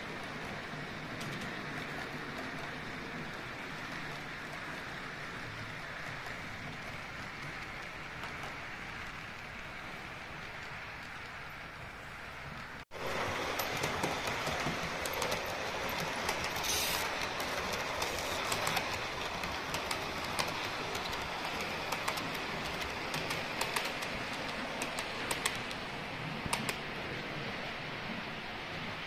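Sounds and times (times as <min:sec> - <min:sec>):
model train rolling rumble: 0:00.0 - 0:29.0
wheels clicking on rail joints: 0:00.0 - 0:29.0.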